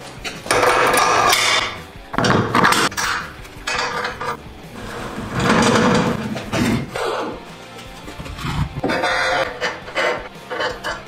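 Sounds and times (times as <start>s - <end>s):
metal clattering and scraping: 0.2s - 11.0s.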